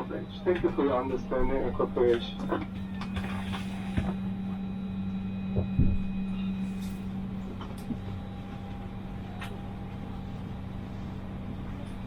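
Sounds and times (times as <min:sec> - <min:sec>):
airplane cabin hum: 0:00.0 - 0:12.0.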